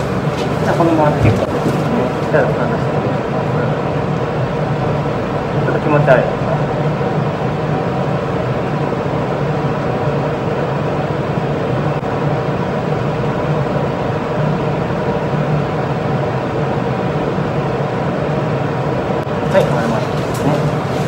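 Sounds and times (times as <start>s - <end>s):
ventilation unit humming: 0.0s - 21.0s.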